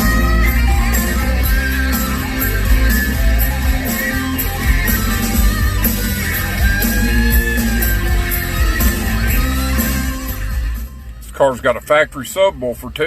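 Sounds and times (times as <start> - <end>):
rock music through car speakers: 0.0 - 13.0.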